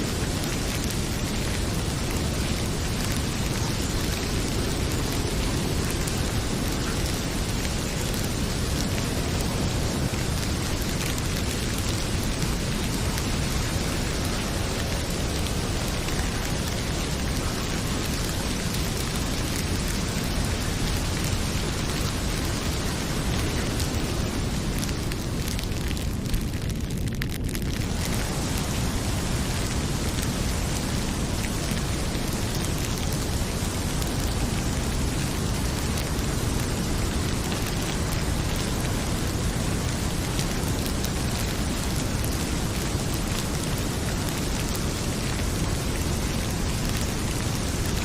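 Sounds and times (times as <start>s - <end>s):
heavy rain pouring: 0.0s - 48.0s
wood fire crackling: 0.0s - 48.0s.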